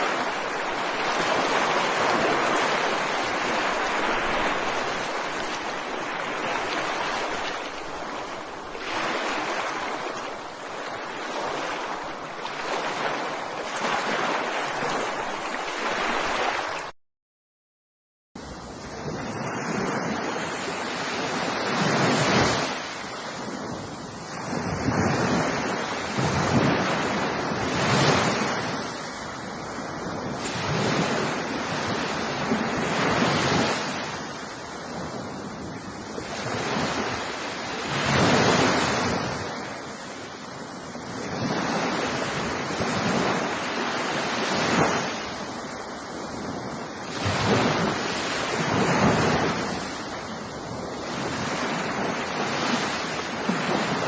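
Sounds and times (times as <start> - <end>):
ocean waves breaking: 0.0 - 16.9, 18.4 - 54.0.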